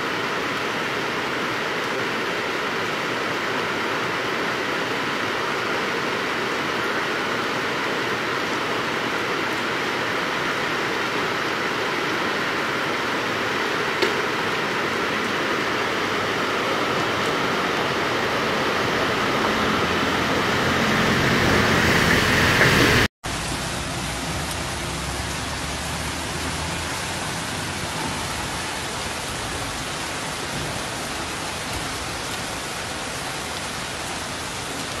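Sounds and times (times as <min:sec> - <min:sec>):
floodwater rushing: 0:00.0 - 0:35.0
heavy rain pouring: 0:00.0 - 0:35.0
running water: 0:00.0 - 0:35.0.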